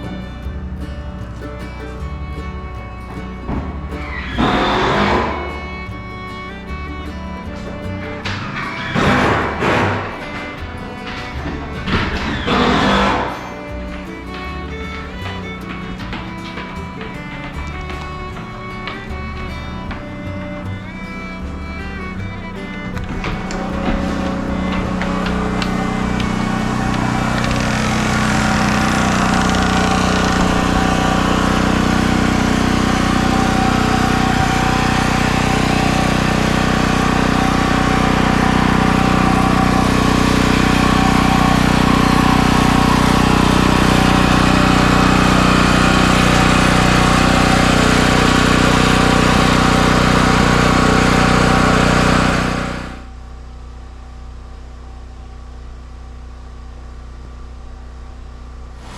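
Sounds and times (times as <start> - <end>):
small engine running: 0.0 - 54.0, 57.7 - 58.9.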